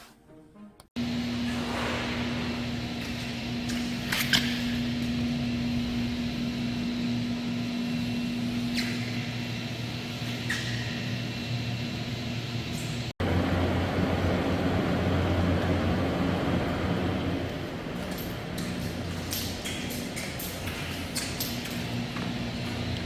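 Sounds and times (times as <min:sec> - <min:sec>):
steady machine hum: 0:01.0 - 0:23.0.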